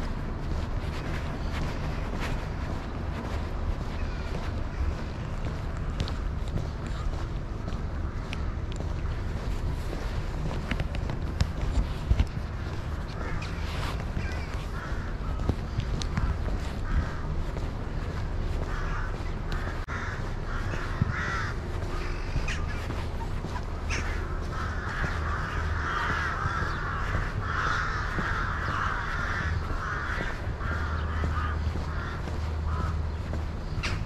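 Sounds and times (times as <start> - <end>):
steady low hum: 0.0 - 34.0
crows cawing: 0.4 - 10.5, 11.3 - 34.0.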